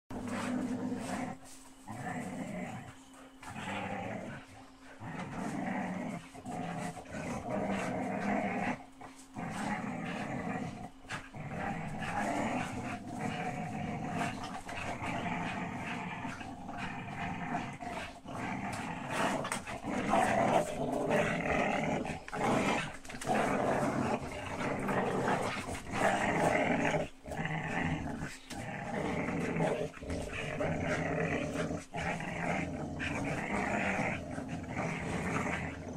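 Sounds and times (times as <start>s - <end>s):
dogs growling in play: 0.1s - 35.9s.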